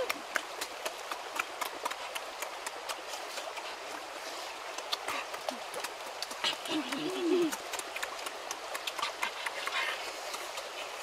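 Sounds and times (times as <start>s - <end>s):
shallow stream rushing: 0.0s - 11.0s.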